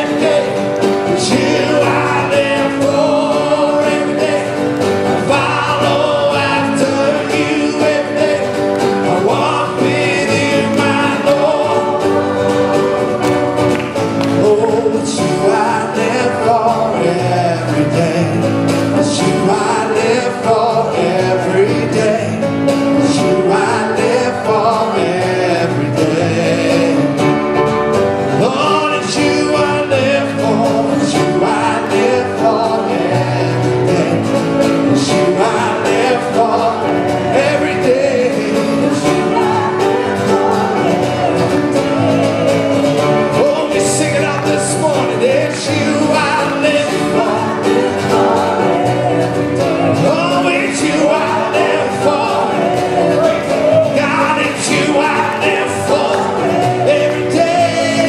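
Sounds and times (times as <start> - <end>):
drums: 0.0 - 58.0
guitar: 0.0 - 58.0
keyboard: 0.0 - 58.0
people singing into microphones: 0.0 - 58.0.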